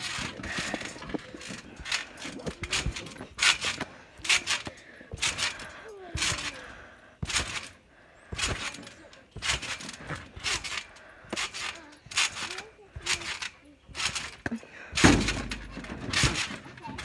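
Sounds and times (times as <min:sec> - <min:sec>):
thuds of jumping on trampoline: 0:00.0 - 0:06.6, 0:07.2 - 0:17.0.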